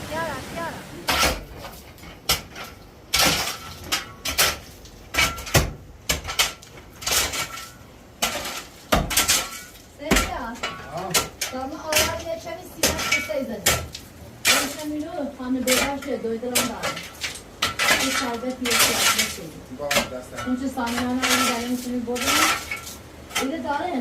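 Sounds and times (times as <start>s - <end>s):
dishes and utensils clattering: 1.1s - 15.0s, 15.6s - 23.7s.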